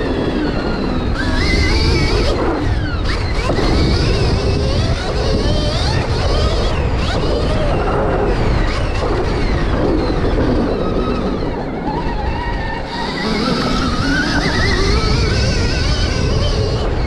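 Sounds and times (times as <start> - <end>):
dirt bike engine revving: 0.0 - 17.0
wind rumble on microphone: 0.0 - 17.0.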